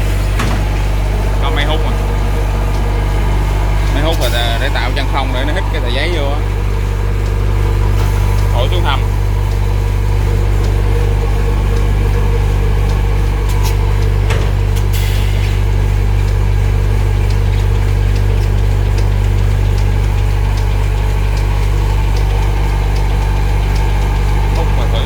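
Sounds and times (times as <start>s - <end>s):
suction blower humming: 0.0s - 25.0s.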